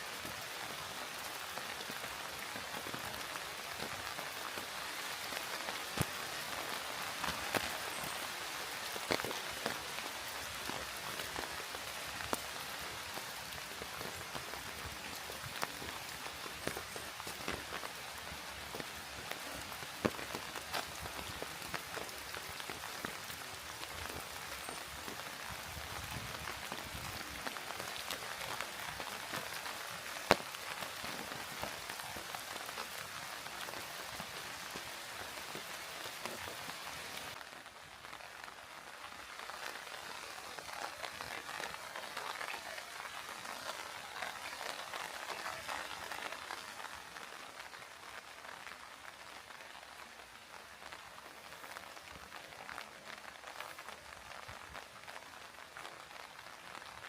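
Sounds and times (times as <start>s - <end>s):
rain falling: 0.0s - 57.0s
raindrops ticking: 0.0s - 57.0s.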